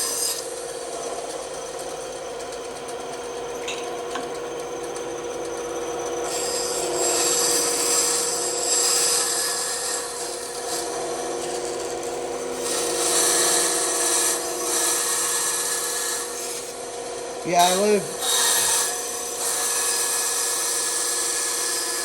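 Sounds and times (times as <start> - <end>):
saw blade cutting wood: 0.0 - 1.9, 6.2 - 22.0
bandsaw running: 0.0 - 22.0.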